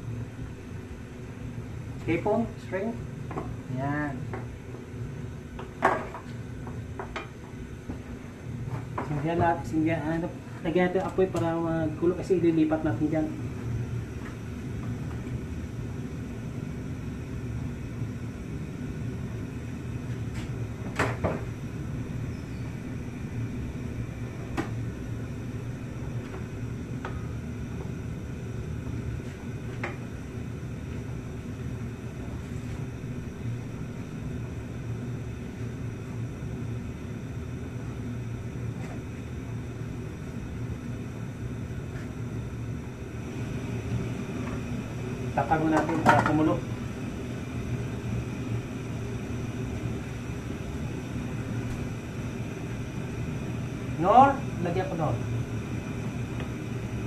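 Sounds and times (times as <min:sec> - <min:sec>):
low kitchen hum: 0:00.0 - 0:57.0.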